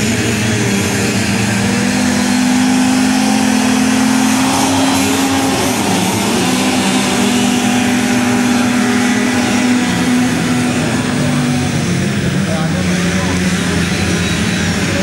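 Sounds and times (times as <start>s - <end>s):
atv engines racing at high revs: 0.0s - 15.0s.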